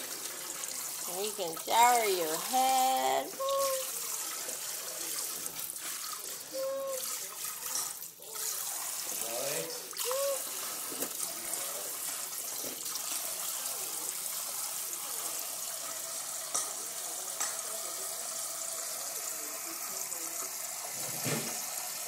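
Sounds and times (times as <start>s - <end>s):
sink sprayer running water: 0.0s - 22.0s.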